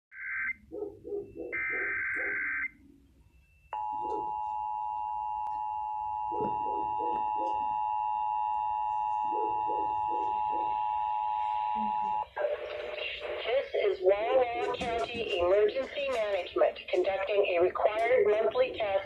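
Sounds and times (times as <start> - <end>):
steady attention tone: 0.2 - 16.3.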